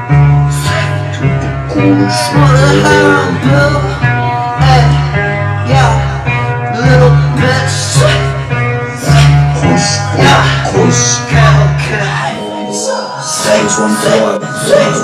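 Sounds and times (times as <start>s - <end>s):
hip-hop music: 0.0s - 15.0s.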